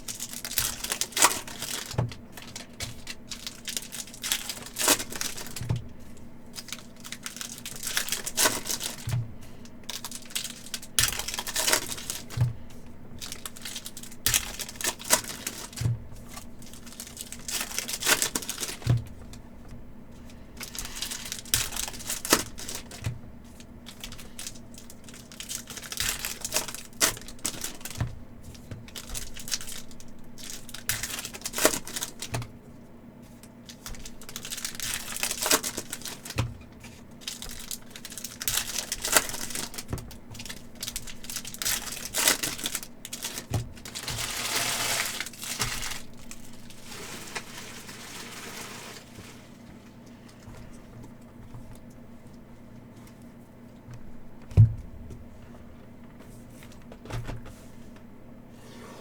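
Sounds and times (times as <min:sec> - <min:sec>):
wrappers crinkling and tearing: 0:00.0 - 0:19.5, 0:20.2 - 0:32.5, 0:33.3 - 0:51.1.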